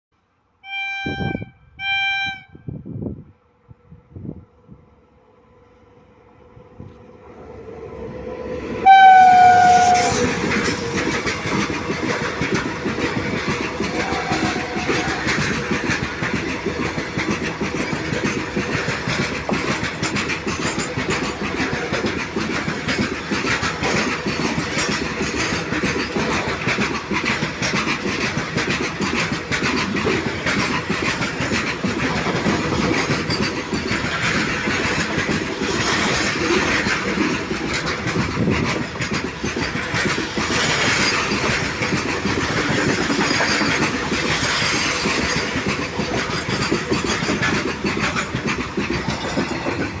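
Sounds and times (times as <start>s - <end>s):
train passing: 0.4s - 50.0s
wheels clattering over rail joints: 8.9s - 50.0s.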